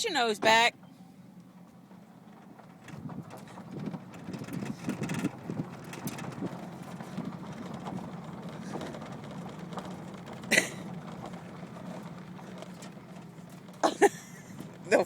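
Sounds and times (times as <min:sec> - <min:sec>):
truck engine low hum: 0:00.0 - 0:15.0.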